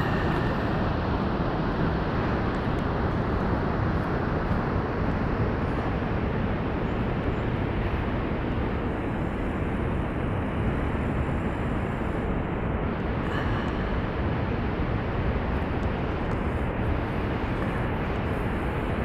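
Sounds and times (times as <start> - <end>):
distant waterfall roar: 0.0 - 19.0.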